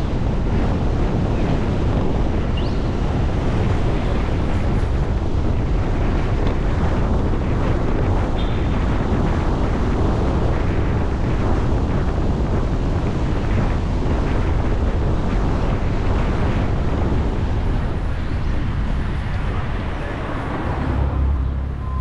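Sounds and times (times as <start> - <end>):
car road noise: 0.0 - 22.0
wind rumble on microphone: 0.0 - 22.0.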